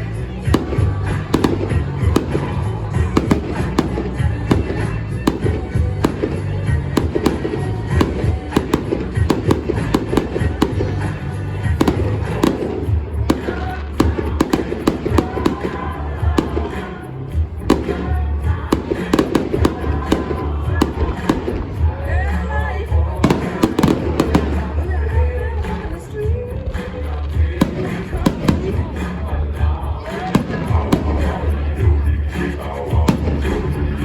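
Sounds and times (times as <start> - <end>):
fireworks bangs and crackles: 0.0 - 34.0
loud music playing: 0.0 - 34.0.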